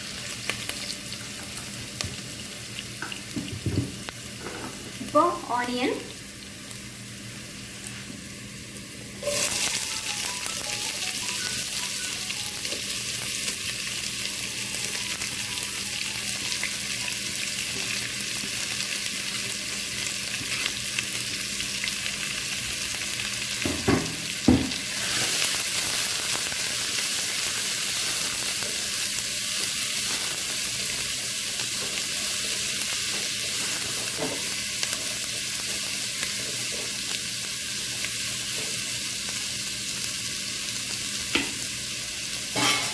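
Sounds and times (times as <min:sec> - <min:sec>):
onions sizzling in hot oil: 0:00.0 - 0:42.9.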